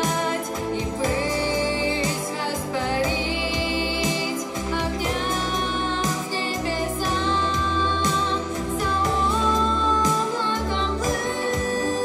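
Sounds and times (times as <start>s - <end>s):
girl singing into microphone: 0.0s - 12.0s.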